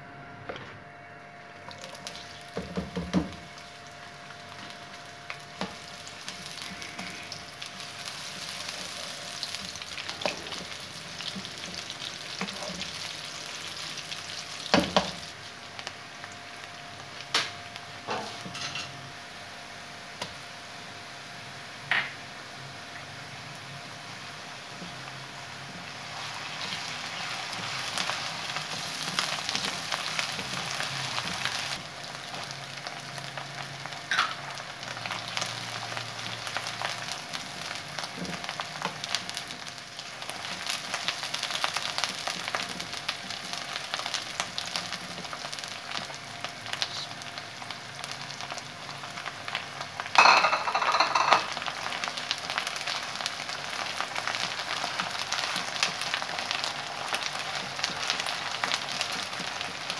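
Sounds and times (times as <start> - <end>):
onions sizzling in oil: 1.6 - 59.9.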